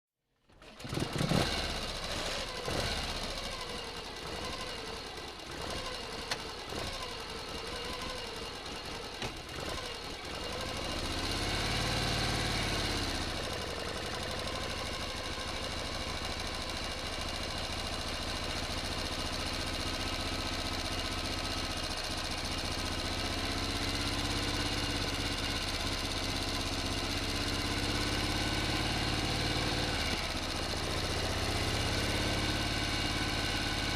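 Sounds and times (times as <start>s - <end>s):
motor engine revving and idling: 0.5s - 33.9s.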